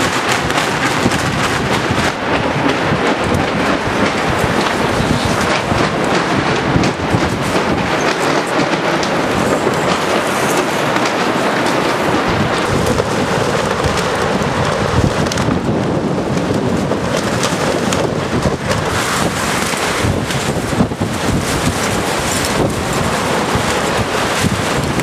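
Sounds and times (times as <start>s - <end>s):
gusty wind buffeting microphone: 0.0s - 25.0s
short crackles and rattles: 0.0s - 25.0s.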